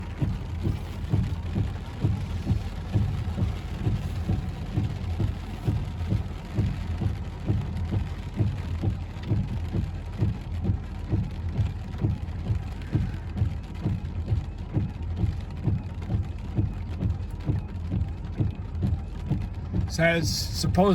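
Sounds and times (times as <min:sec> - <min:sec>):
rain: 0:00.0 - 0:20.9
steady low rumble: 0:00.0 - 0:20.9.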